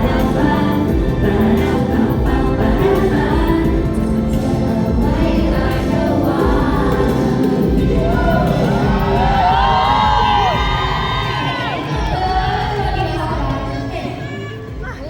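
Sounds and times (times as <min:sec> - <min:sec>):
person singing live: 0:00.0 - 0:14.2
loud amplified pop music: 0:00.0 - 0:15.0.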